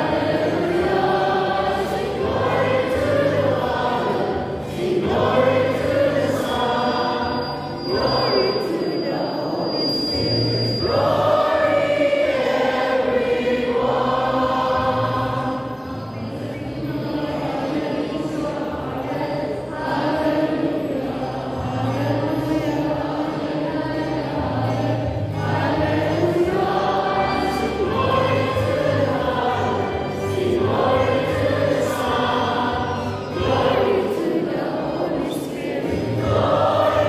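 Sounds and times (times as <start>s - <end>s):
church choir singing a hymn: 0.0s - 37.0s.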